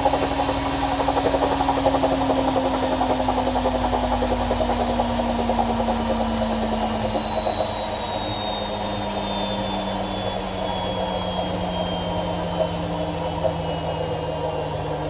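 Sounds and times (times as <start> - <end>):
washing machine drum spinning: 0.0 - 15.0.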